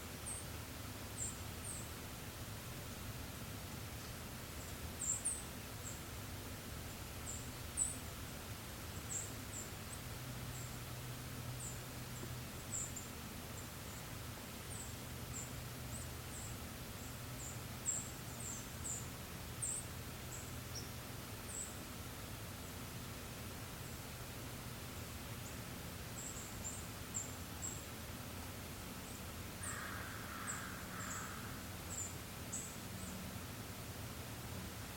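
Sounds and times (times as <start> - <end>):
low background hiss and hum: 0.0 - 34.9.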